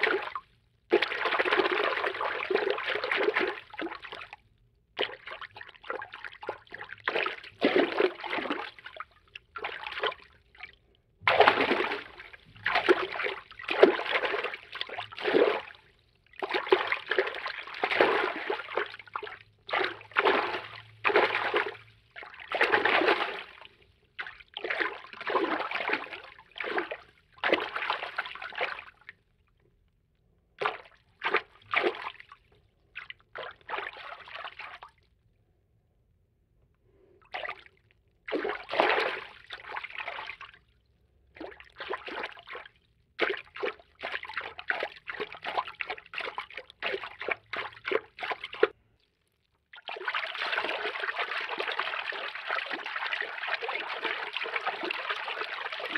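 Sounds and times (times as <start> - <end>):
water swishing and sloshing: 0.0 - 29.3, 30.6 - 35.2, 36.9 - 55.9.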